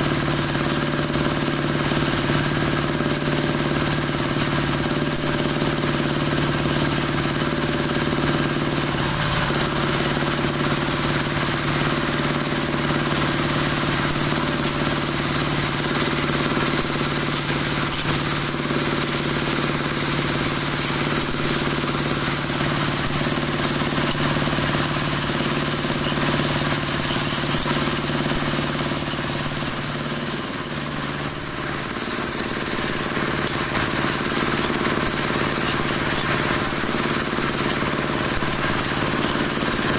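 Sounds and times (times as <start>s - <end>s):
dowel machine motor hum and whine: 0.0s - 39.9s.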